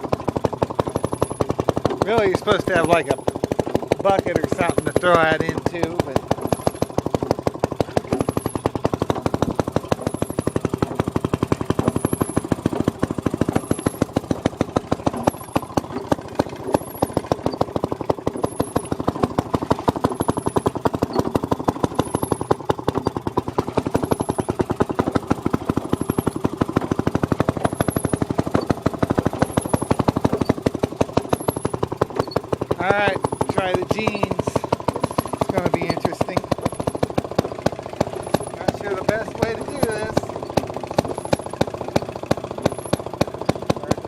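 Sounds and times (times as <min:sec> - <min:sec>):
two-stroke engine running: 0:00.0 - 0:44.0.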